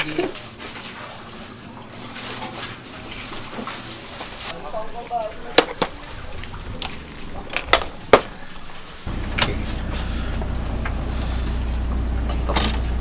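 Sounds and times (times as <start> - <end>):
boat engine droning: 0.4 - 4.5, 5.9 - 13.0.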